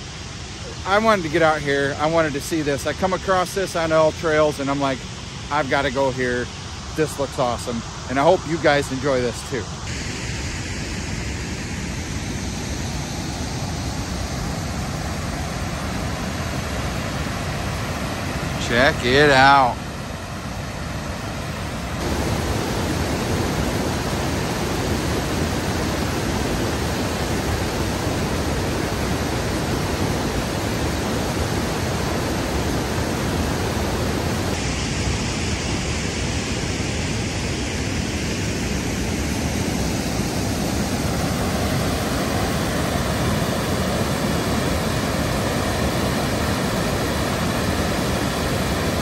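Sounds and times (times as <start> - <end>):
waterfall roaring: 0.0 - 49.0.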